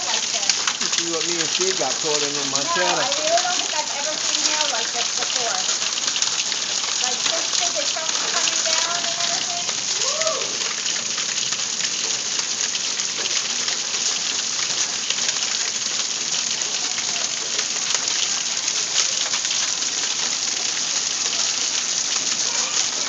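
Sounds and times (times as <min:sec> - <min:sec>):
hail and rain pelting wood: 0:00.0 - 0:23.0.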